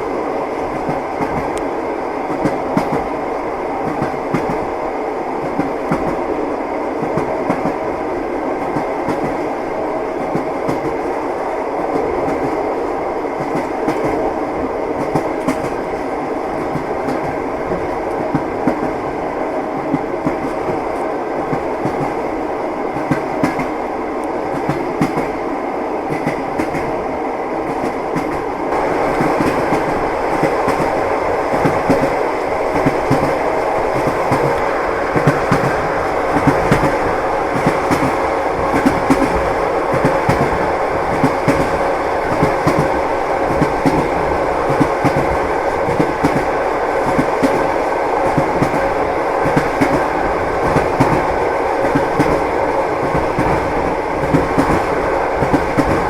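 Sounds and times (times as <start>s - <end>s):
moving train rumble: 0.0s - 56.0s
train wheels clacking on rails: 0.0s - 56.0s.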